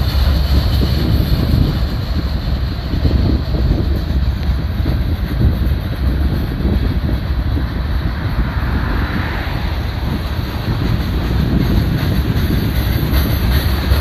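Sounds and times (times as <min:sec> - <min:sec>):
freight train rumbling on rails: 0:00.0 - 0:14.0
wind buffeting the microphone: 0:00.0 - 0:14.0.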